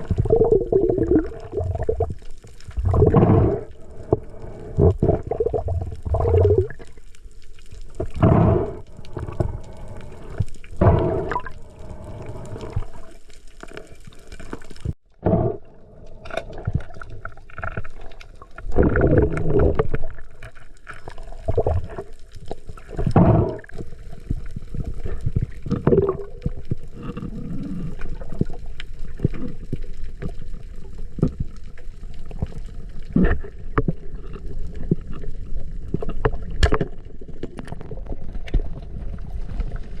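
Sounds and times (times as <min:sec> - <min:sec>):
water gurgling and sloshing: 0:00.0 - 0:40.0.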